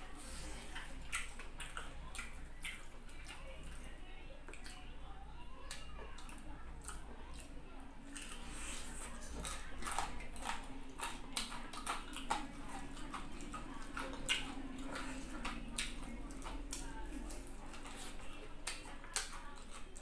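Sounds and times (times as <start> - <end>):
chewing crunchy fried chicken: 0.0 - 20.0
faint steady hum: 0.0 - 20.0.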